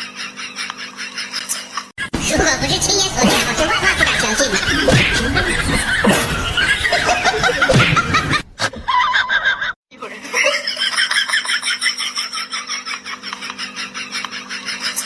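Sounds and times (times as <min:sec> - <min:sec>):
people laughing and snickering: 0:00.4 - 0:15.0.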